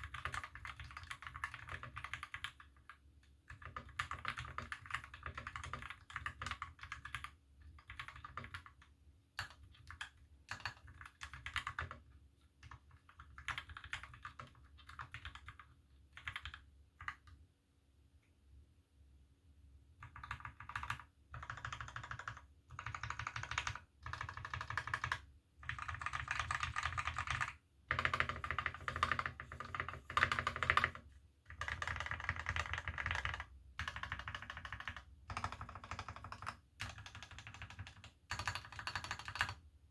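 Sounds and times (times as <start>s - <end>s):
mechanical keyboard typing: 0.0s - 8.8s, 9.4s - 17.4s, 20.0s - 39.6s.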